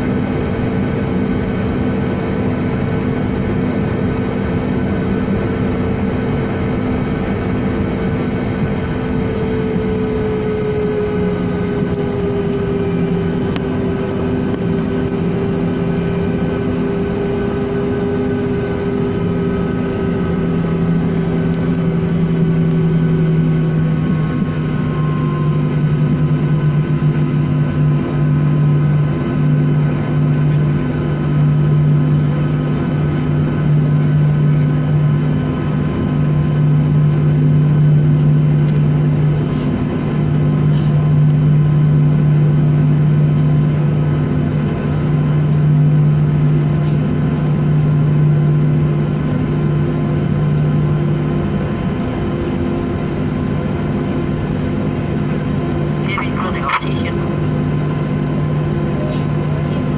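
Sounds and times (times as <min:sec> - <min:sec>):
jet engines whining hum: 0:00.0 - 0:59.9.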